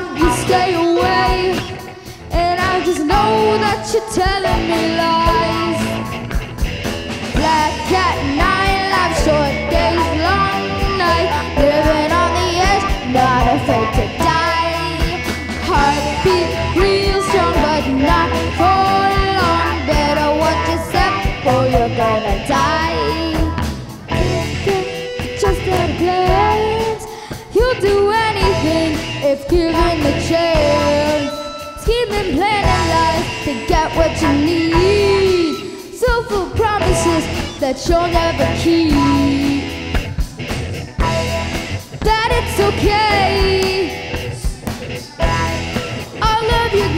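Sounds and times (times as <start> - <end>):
person singing: 0.0 - 6.2, 7.4 - 39.9, 40.8 - 46.9
bass guitar: 0.0 - 46.9
drum kit: 0.0 - 46.9
electric guitar: 0.0 - 46.9
keyboard: 0.0 - 46.9.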